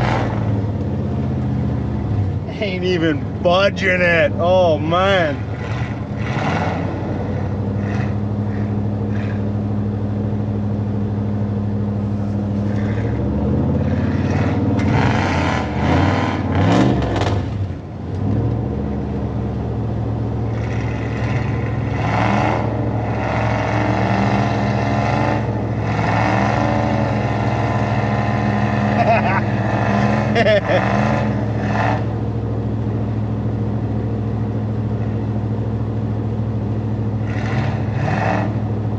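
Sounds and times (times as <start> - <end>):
truck engine revving under load: 0.0 - 38.9.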